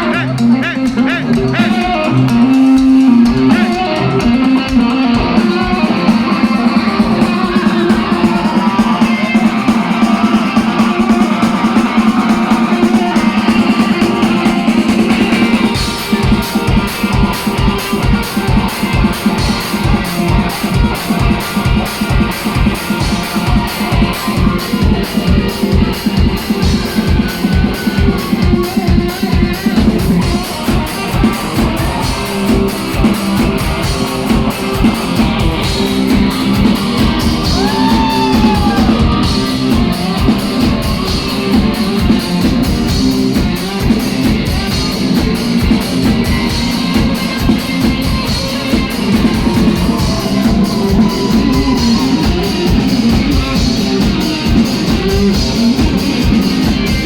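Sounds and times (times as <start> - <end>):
drum kit: 0.0 - 57.0
electric guitar: 0.0 - 57.0
person singing: 0.0 - 57.0.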